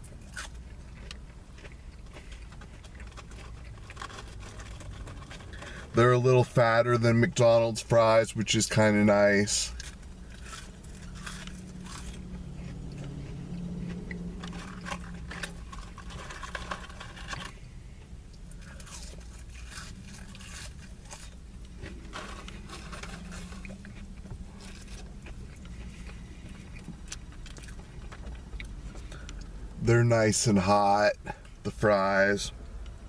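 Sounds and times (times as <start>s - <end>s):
chewing crunchy fries: 0.0s - 33.0s
low steady hum: 0.0s - 33.0s.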